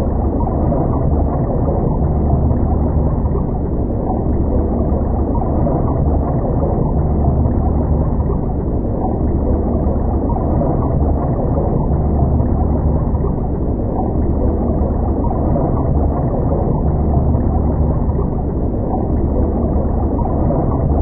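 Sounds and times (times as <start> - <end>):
muffled underwater river rumble: 0.0 - 21.0.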